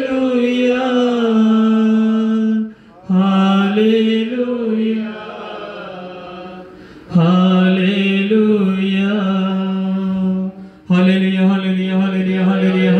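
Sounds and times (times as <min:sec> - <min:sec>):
voice singing chant: 0:00.0 - 0:12.9.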